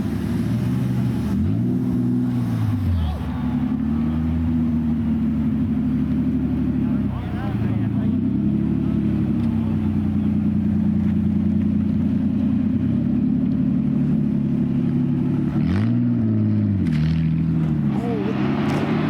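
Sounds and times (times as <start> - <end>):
car engine idling: 0.0 - 15.6
car engine revving: 0.0 - 19.0.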